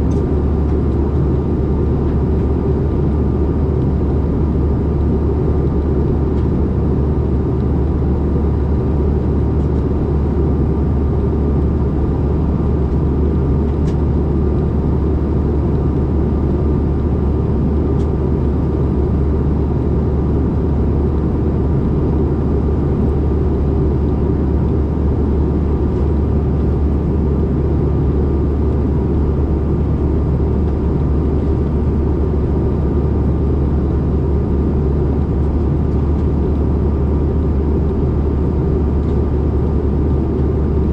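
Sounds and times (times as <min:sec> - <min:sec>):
jet cabin rumble: 0:00.0 - 0:40.9.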